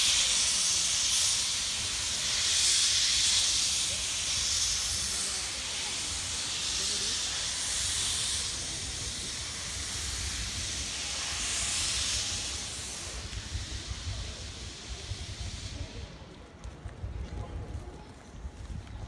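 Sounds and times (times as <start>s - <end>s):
steam locomotive hissing steam: 0.0s - 17.8s.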